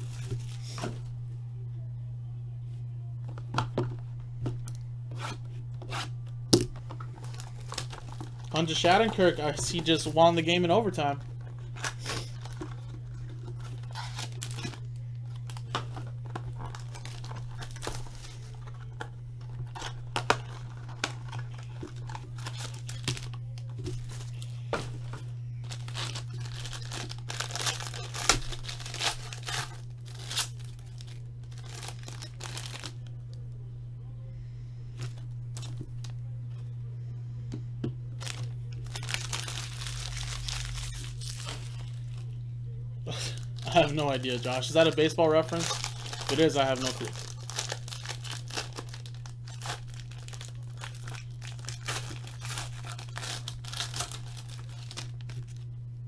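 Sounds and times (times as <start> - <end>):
foil pack crinkling and tearing: 0.0 - 1.0, 6.6 - 33.2, 35.0 - 36.2, 38.2 - 42.4, 43.1 - 55.7
steady low hum: 0.0 - 56.0.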